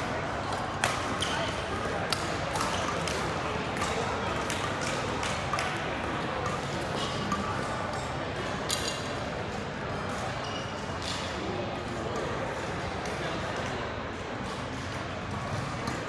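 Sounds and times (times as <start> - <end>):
murmur of voices: 0.0 - 16.0
rackets hitting shuttlecock: 0.4 - 13.7, 14.4 - 16.0.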